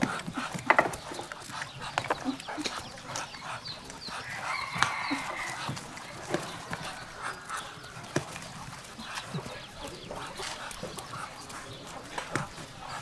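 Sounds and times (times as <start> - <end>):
chickens clucking: 0.0 - 13.0
pig grunting: 0.0 - 13.0.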